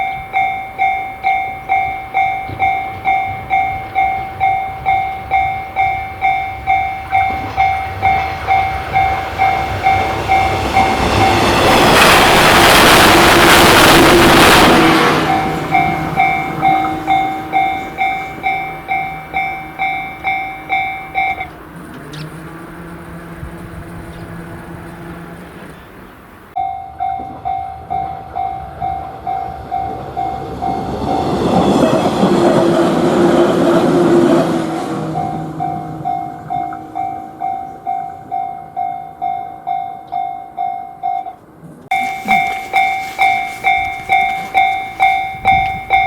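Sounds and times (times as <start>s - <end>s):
level-crossing warning bell ringing: 0.0s - 46.0s
train rushing past: 0.0s - 46.0s.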